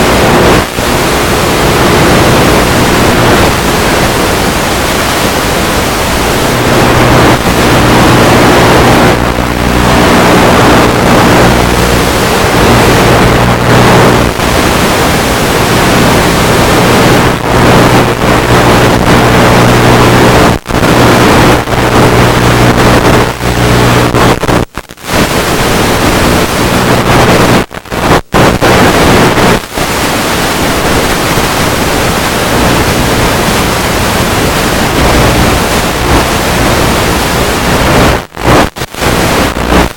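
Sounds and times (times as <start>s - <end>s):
wind and propeller wash rushing: 0.0s - 39.9s.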